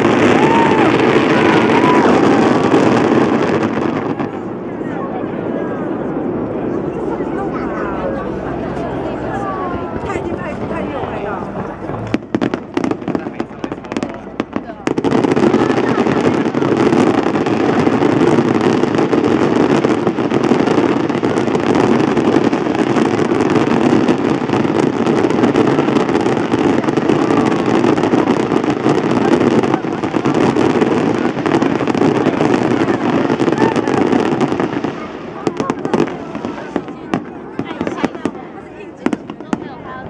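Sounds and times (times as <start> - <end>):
fireworks crackling: 0.0 - 40.0.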